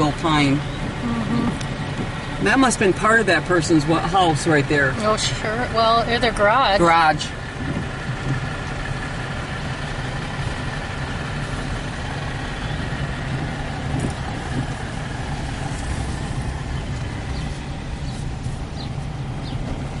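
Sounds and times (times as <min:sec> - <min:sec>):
car engine and tyres hum: 0:00.0 - 0:20.0.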